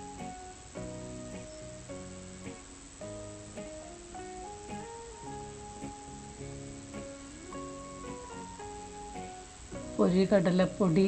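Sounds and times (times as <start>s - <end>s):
guitar playing slow melody: 0.0s - 11.0s.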